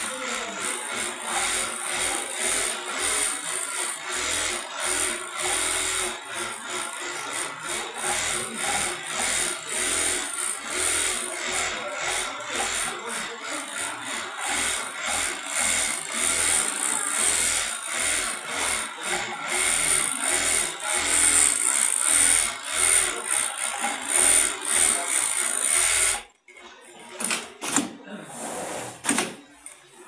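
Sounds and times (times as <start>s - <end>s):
sewing machine stitching: 0.0s - 30.0s.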